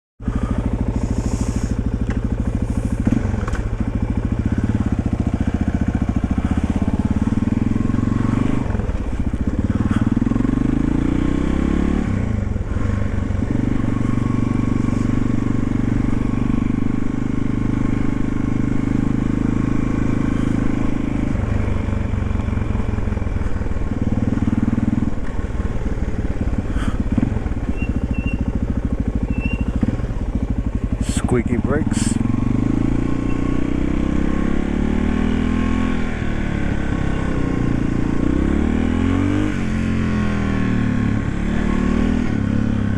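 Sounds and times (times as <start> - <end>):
motorcycle engine revving: 0.2 - 42.9.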